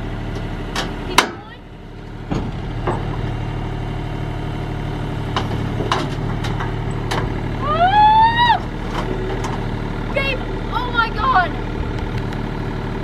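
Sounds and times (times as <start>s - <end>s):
excavator engine idling: 0.0s - 13.0s.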